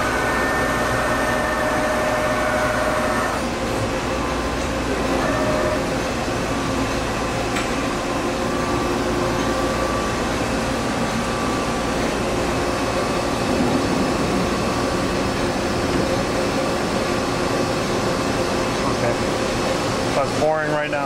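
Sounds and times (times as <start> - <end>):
lathe machine humming: 0.0 - 21.0.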